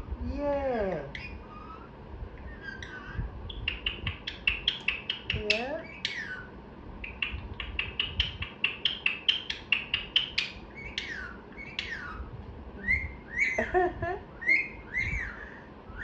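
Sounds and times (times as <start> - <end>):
parrot chirping: 1.1 - 16.0.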